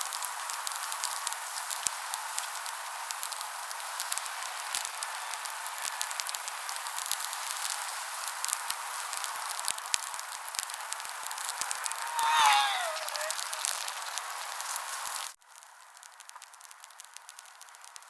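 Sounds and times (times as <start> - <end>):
campfire crackling: 0.0 - 18.0
light rain pattering on tarp: 0.0 - 18.0.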